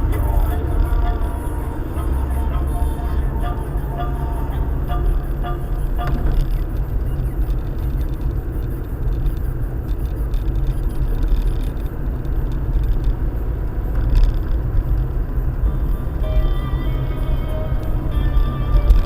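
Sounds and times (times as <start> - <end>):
car engine rumble: 0.0 - 19.0
tyres on road: 0.0 - 19.0.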